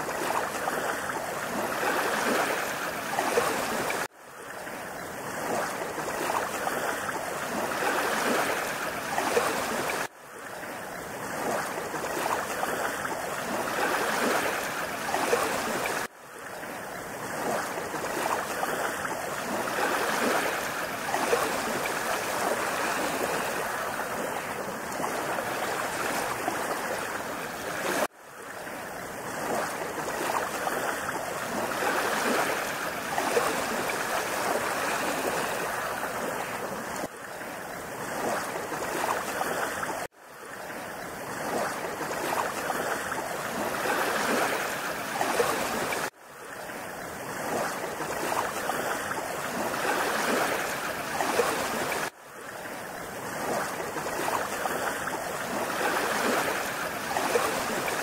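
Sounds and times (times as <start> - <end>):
rushing water roar: 0.0 - 58.0.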